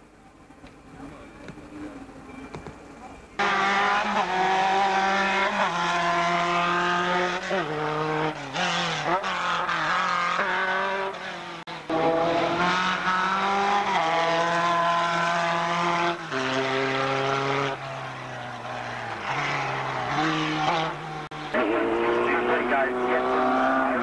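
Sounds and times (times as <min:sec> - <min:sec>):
racing car engines revving high: 0:03.3 - 0:24.0.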